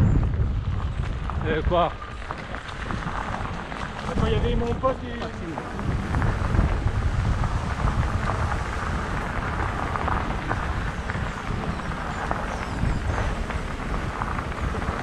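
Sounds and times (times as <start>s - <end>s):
bike tyres on gravel: 0.0s - 15.0s
wind rumble on microphone: 0.0s - 15.0s.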